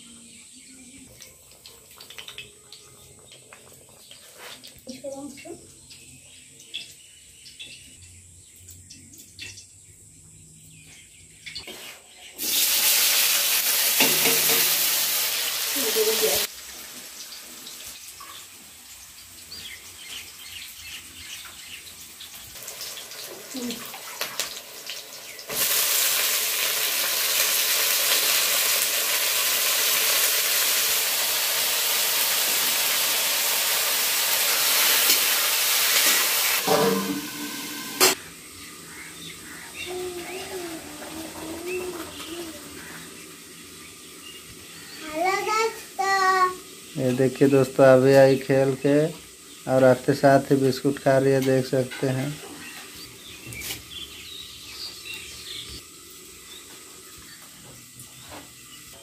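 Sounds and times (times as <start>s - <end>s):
vegetables sizzling in oil: 11.6s - 59.0s.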